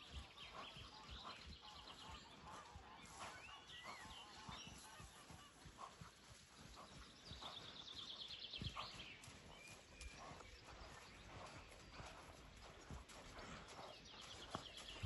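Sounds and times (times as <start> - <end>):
hoofbeats trotting on sand: 0.0 - 15.0
small birds chirping: 0.0 - 15.0.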